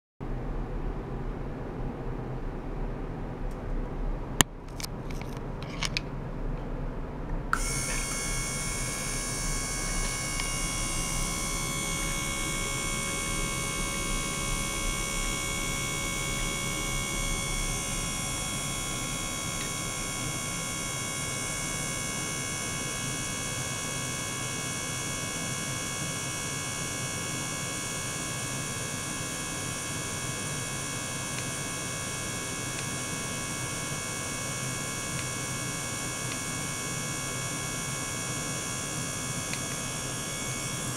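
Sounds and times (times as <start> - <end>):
pump humming with high whine: 0.2 - 40.9.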